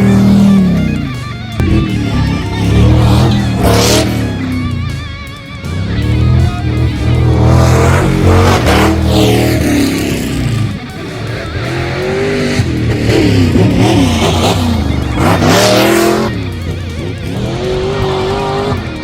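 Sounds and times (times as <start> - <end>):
rock music with guitar: 0.0 - 19.0
truck engines revving: 0.0 - 19.0.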